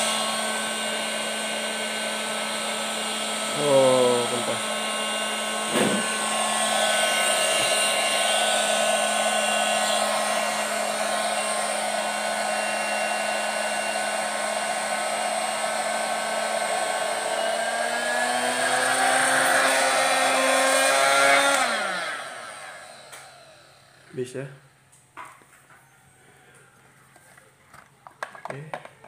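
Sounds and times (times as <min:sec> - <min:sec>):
electric air pump whining: 0:00.0 - 0:24.4.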